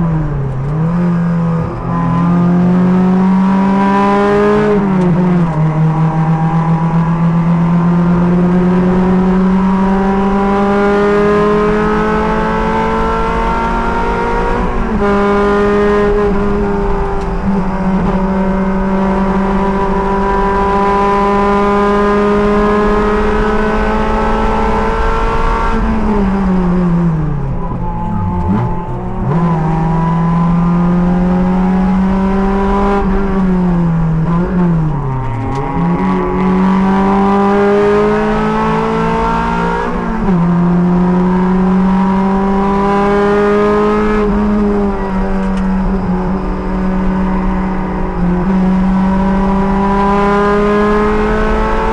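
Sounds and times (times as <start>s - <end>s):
race car engine at high revs: 0.0s - 51.9s.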